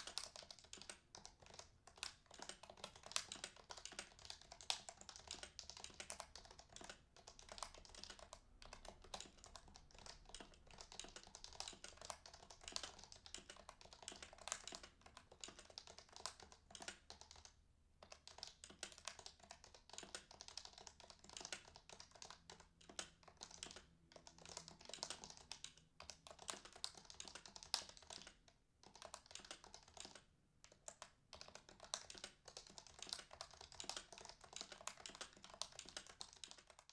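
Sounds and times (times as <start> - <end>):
keyboard typing: 0.0 - 36.9.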